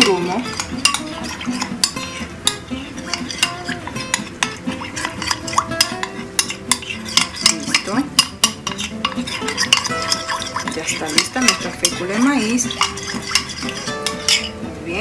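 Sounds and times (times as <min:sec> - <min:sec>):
spoon clinking in container: 0:00.0 - 0:14.6.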